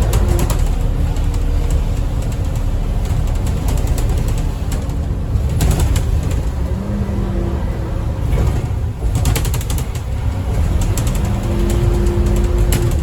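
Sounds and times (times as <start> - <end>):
bus bodywork rattling: 0.0 - 13.0
bus engine and road rumble: 0.0 - 13.0.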